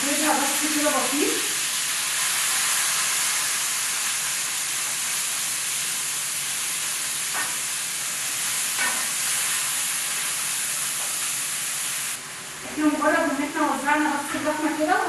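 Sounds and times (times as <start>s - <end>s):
meat sizzling in a pan: 0.0s - 12.2s.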